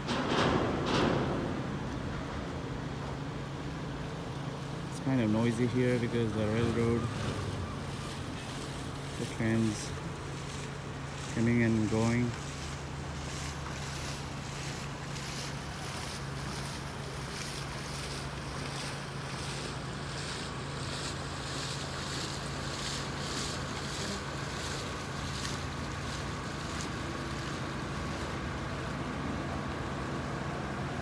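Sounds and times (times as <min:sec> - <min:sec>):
train engines rumbling: 0:00.0 - 0:31.0.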